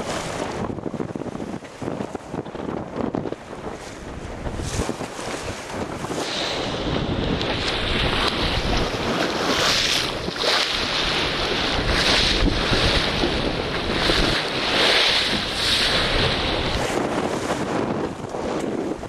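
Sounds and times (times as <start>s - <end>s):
water splashing along boat hull: 0.0s - 19.0s
wind rumbling on microphone: 0.0s - 19.0s.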